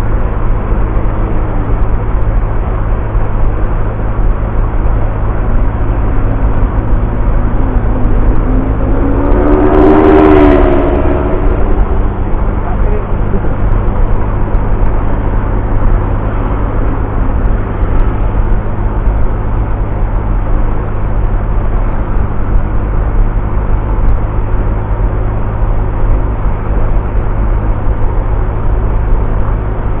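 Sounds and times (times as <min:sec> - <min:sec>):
scooter engine humming: 0:00.0 - 0:30.0
wind rumble on microphone: 0:00.0 - 0:30.0.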